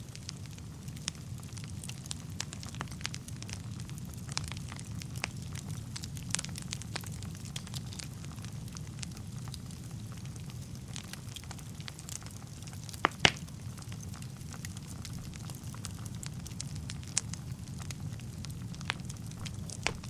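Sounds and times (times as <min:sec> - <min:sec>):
fire crackles and pops: 0:00.0 - 0:20.0
fire flames rumbling: 0:00.0 - 0:20.0.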